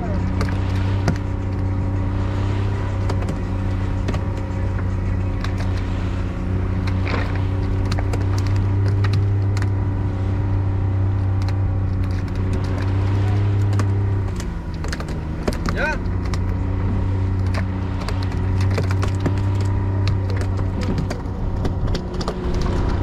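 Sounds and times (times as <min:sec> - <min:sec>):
boat motor running: 0:00.0 - 0:23.0.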